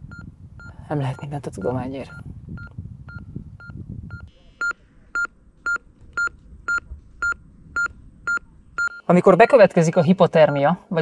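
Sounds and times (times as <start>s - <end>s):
patient monitor beeping: 0.0s - 9.1s, 10.4s - 10.7s.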